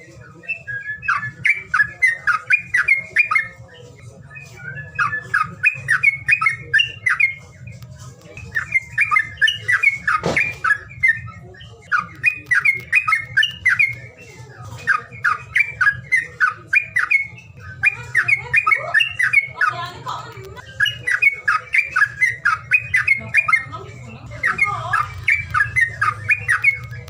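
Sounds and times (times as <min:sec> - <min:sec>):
songbird chattering: 0:00.0 - 0:27.0.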